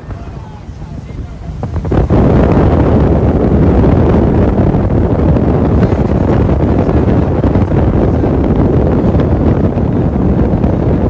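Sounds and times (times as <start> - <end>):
boat engine rush: 0.0 - 11.0
water rushing: 0.0 - 11.0
wind buffeting microphone: 0.0 - 11.0.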